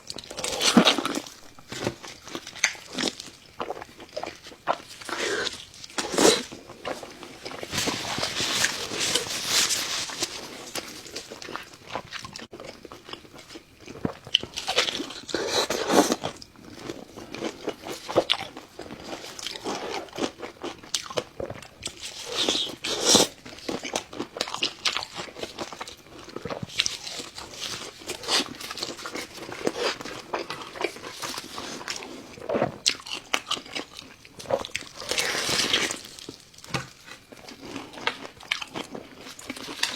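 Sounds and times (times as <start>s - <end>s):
crunchy chewing of crisp food: 0.0s - 39.9s.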